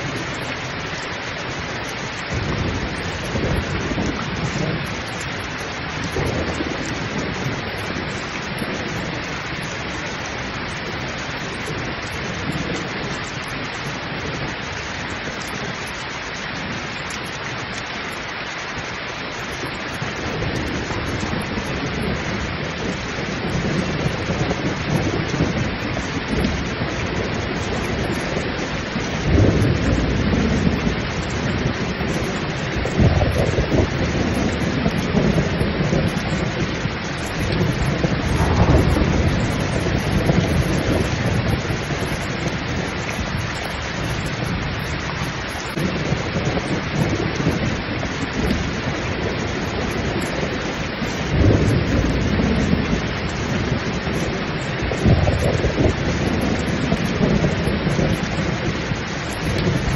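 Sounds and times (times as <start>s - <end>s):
heavy rain pouring: 0.0s - 59.9s
thunder rumbling: 0.0s - 59.9s.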